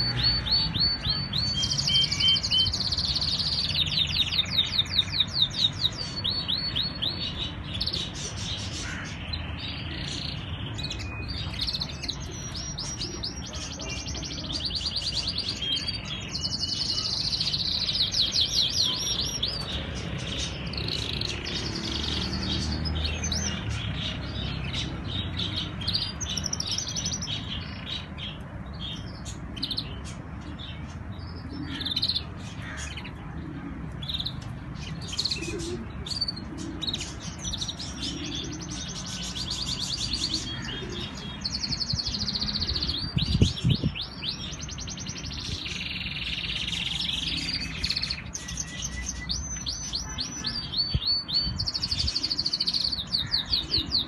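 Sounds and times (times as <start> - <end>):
canaries singing trills: 0.0 - 54.0.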